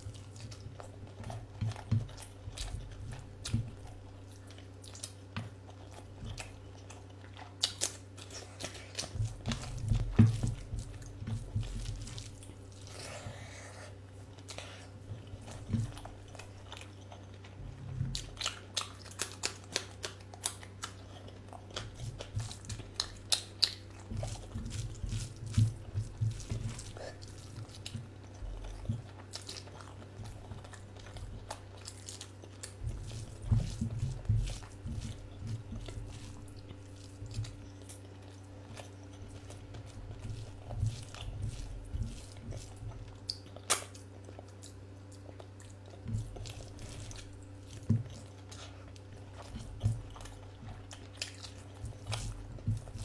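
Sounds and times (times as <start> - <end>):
person chewing with mouth smacks: 0.0 - 53.0
steady low hum: 0.0 - 53.0.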